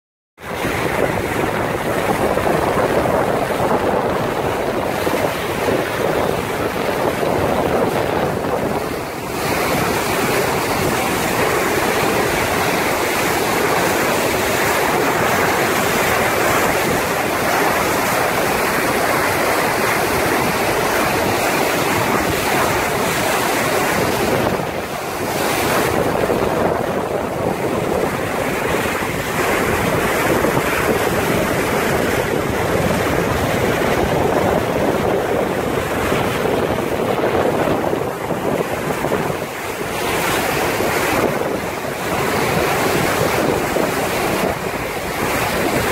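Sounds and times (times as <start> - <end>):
bow wave rushing along hull: 0.4 - 45.9
wind buffeting microphone: 0.4 - 45.9.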